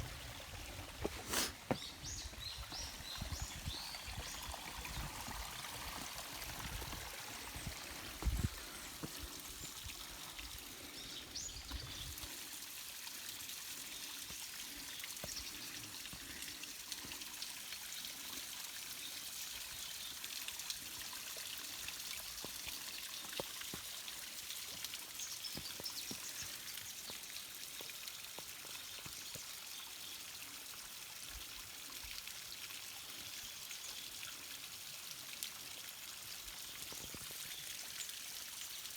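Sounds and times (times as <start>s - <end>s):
stream water over rocks: 0.0s - 38.9s.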